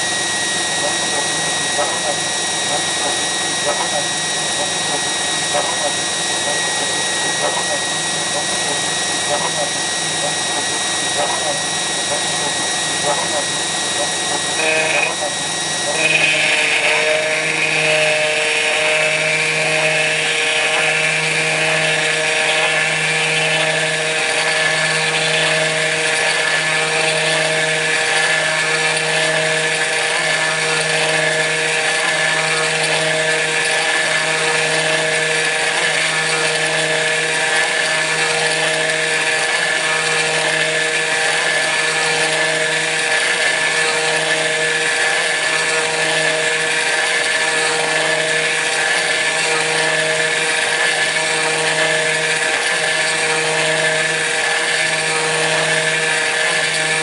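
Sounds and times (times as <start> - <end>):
router spindle whine: 0.0 - 57.0.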